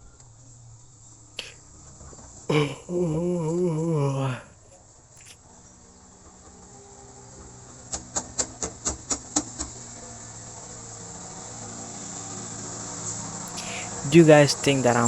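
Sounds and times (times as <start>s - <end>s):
steady low hum: 0.0s - 7.9s, 10.0s - 15.0s.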